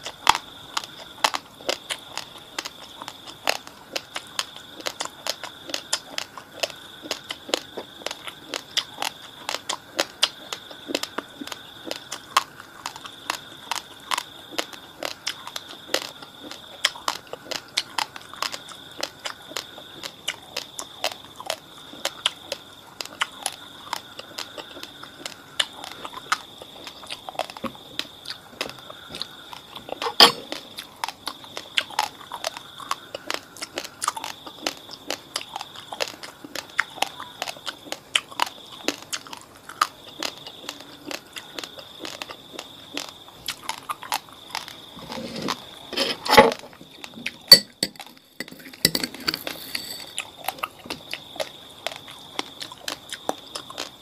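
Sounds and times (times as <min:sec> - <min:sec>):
crunching raw rice: 0:00.0 - 0:54.0.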